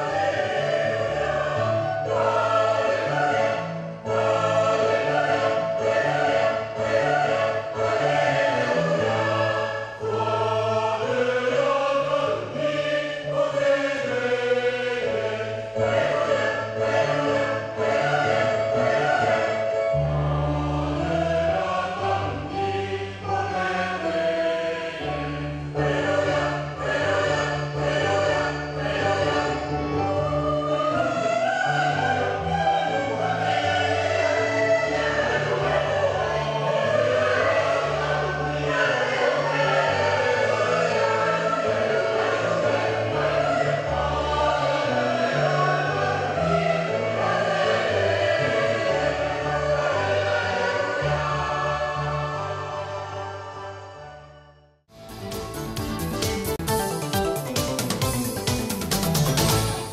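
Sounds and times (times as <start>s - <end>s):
choir singing a hymn: 0.0s - 54.6s.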